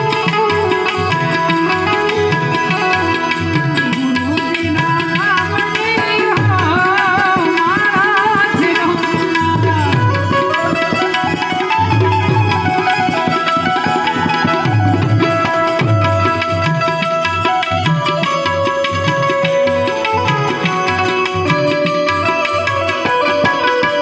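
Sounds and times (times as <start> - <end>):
harmonium chords and melody: 0.0 - 24.0
tabla strokes: 0.0 - 24.0.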